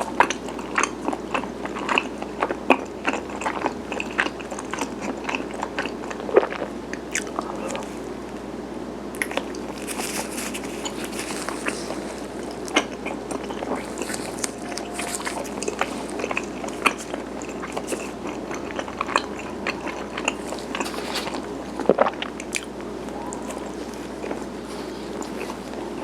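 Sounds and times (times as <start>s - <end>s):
wet chewing mouth clicks: 0.0s - 7.9s, 9.2s - 26.0s.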